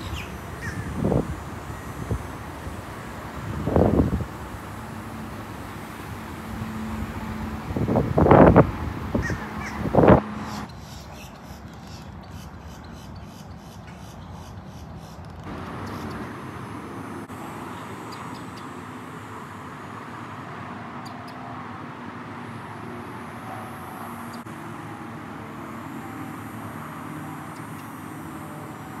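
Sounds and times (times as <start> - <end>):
outdoor rumble and hiss: 0.0 - 29.0.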